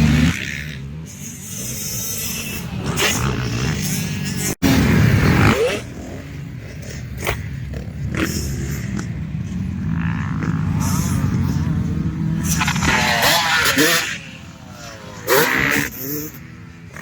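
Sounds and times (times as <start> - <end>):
dirt bike engines: 0.0 - 17.0.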